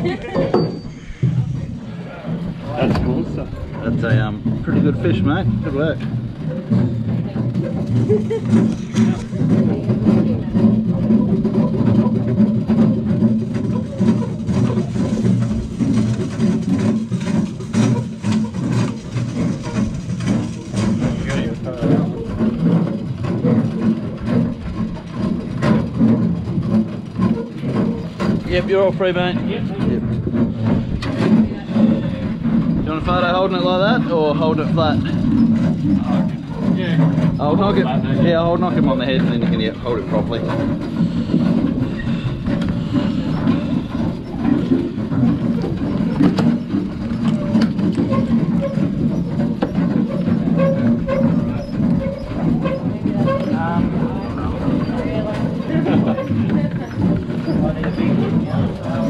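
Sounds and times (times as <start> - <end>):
boat machinery rumbling: 0.0 - 59.0.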